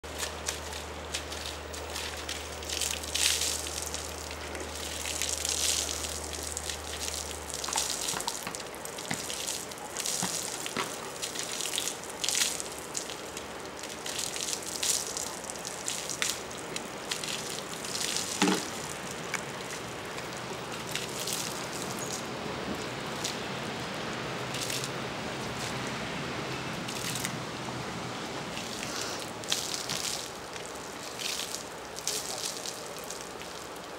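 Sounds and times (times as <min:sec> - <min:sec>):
water splashing onto concrete: 0:00.0 - 0:25.9, 0:26.7 - 0:27.6, 0:28.4 - 0:33.9.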